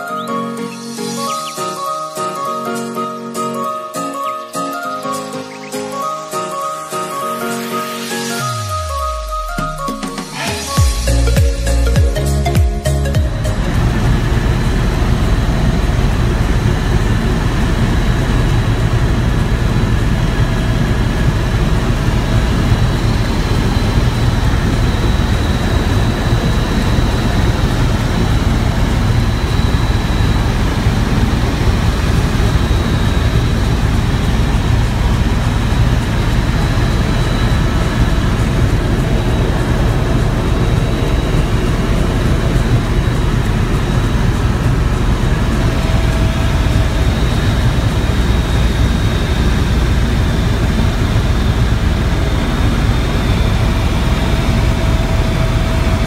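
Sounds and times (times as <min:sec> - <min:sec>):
helicopter engine and rotor drone: 0:00.0 - 0:56.0
high whine: 0:00.0 - 0:56.0.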